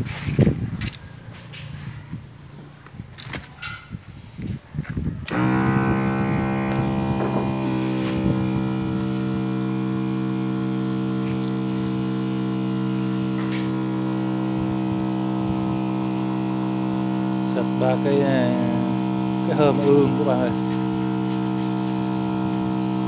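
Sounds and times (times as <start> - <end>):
electric pump motor humming: 4.4 - 23.0.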